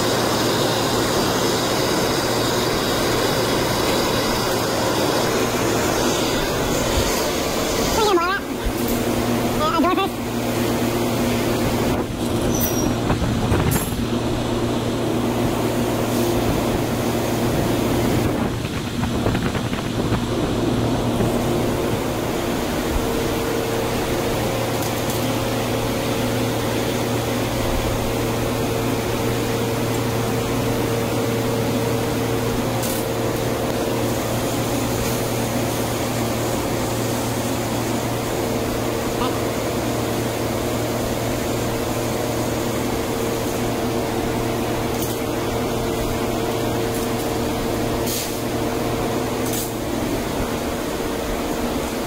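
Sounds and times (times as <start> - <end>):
gas burners and blower fans rushing: 0.0 - 52.0.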